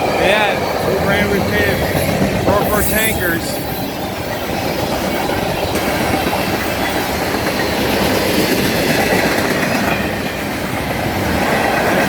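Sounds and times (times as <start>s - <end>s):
freight train rolling past: 0.0s - 12.0s
steel wheels clattering on rails: 0.0s - 12.0s.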